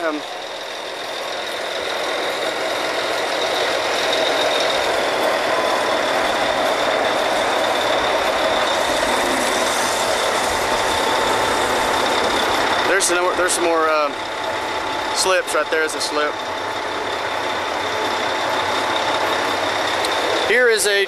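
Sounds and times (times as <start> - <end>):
drilling rig machinery running: 0.0 - 21.0
steady high whine: 0.0 - 21.0.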